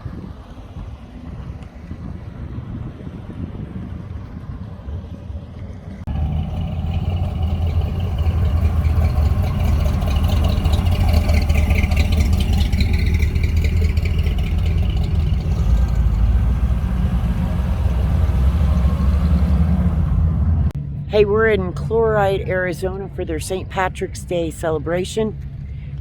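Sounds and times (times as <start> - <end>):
wind rumble on microphone: 0.0 - 23.1
vehicle engine rumbling: 0.0 - 26.0.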